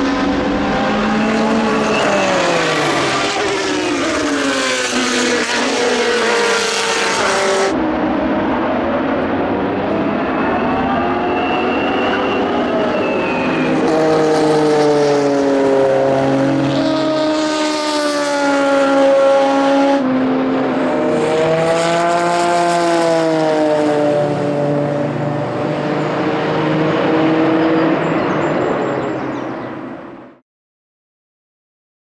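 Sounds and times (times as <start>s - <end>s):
racing engine revving: 0.0s - 29.7s.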